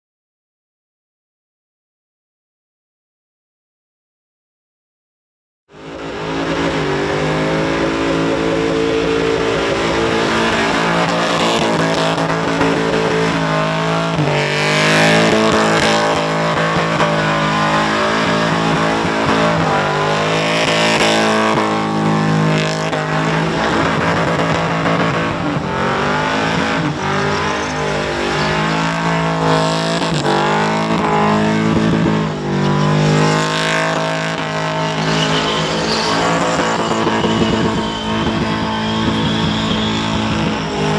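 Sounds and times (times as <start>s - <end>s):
engine at high revs: 5.7s - 40.9s.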